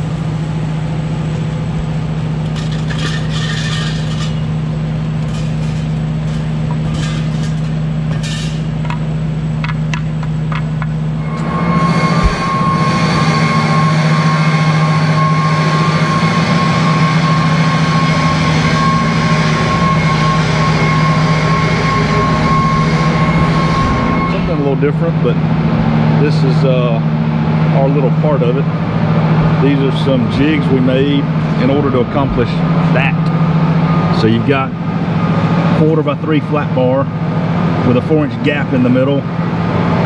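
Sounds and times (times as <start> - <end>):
hiss and high whine: 0.0 - 37.7
machine low drone: 0.0 - 40.0.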